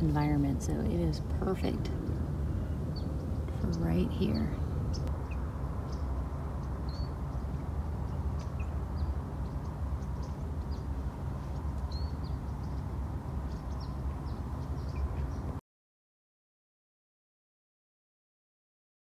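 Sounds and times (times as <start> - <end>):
small birds chirping: 0.0 - 15.6
steady low rumble: 0.0 - 15.6.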